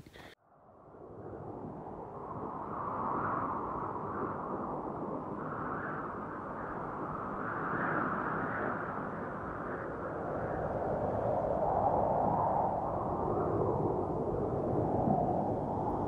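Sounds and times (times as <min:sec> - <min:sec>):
wind blowing over microphone: 0:00.8 - 0:16.0.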